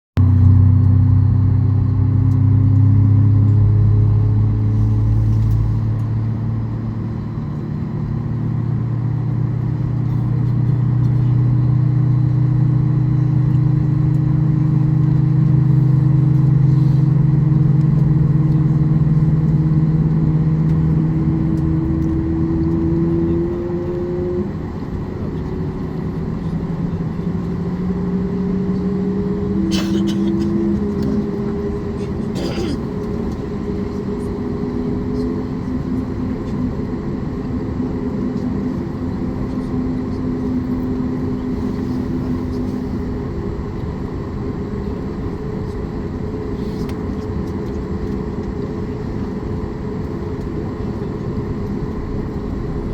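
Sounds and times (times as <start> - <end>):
airplane cabin drone: 0.2 - 52.9.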